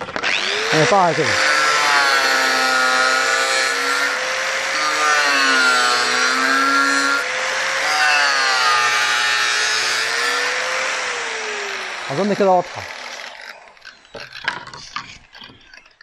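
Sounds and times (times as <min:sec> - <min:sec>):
angle grinder cutting metal panel: 0:00.0 - 0:15.8.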